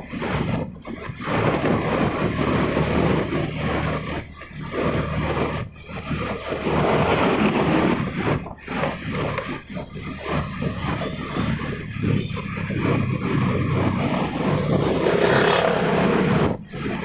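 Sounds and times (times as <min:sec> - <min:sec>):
low engine hum: 0:00.0 - 0:17.0
wind rushing over microphone: 0:00.0 - 0:17.0.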